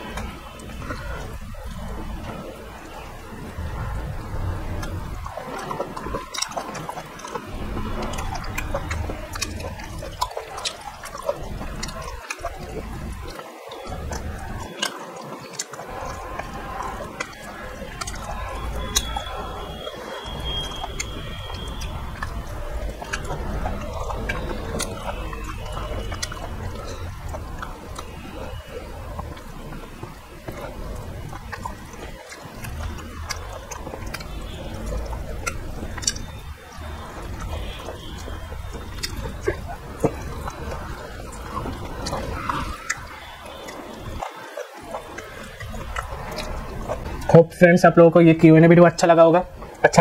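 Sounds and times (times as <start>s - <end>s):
wet chewing and lip-smacking: 0.0s - 50.0s.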